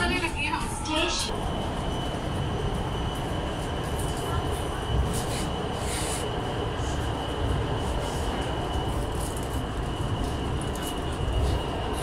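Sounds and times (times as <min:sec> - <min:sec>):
metro train rumble: 0:00.0 - 0:12.0.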